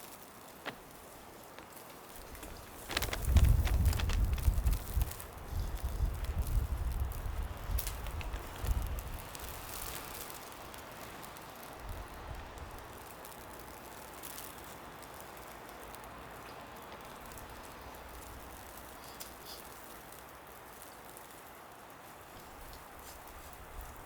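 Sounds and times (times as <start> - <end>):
wet snow hissing on street: 0.0 - 24.0.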